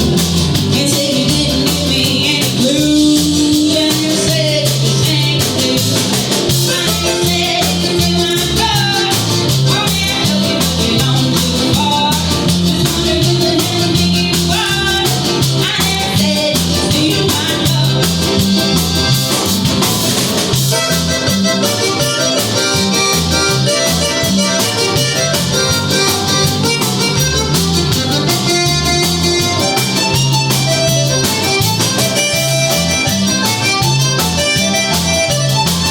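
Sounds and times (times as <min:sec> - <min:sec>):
live band playing country-rock: 0:00.0 - 0:35.9.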